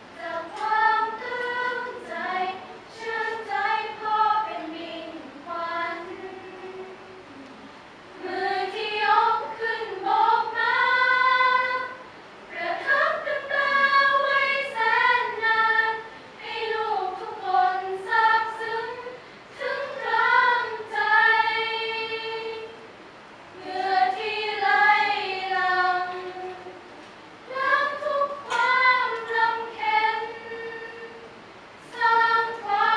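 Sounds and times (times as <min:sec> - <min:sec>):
women's choir singing: 0:00.0 - 0:07.4, 0:08.2 - 0:32.9.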